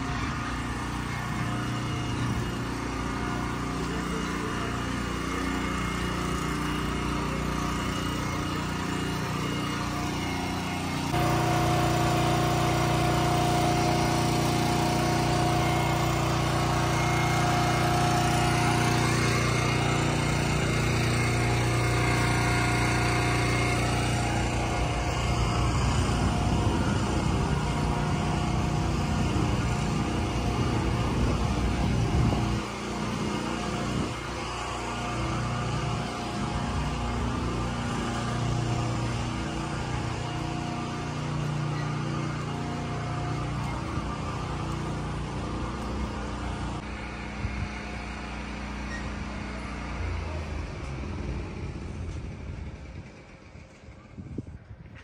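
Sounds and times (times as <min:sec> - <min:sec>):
construction machinery engine droning: 0:00.0 - 0:55.0.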